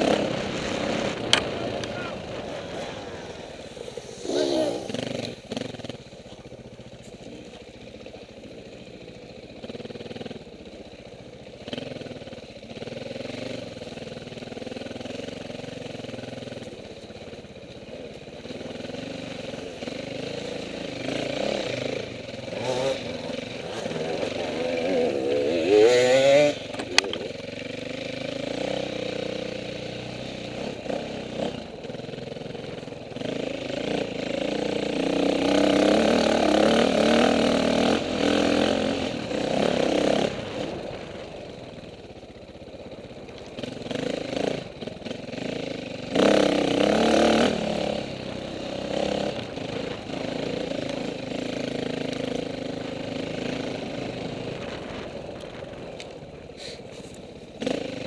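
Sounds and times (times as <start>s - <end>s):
dirt bike engine revving: 0.0s - 6.8s, 8.4s - 42.2s, 42.9s - 55.8s, 56.6s - 58.0s.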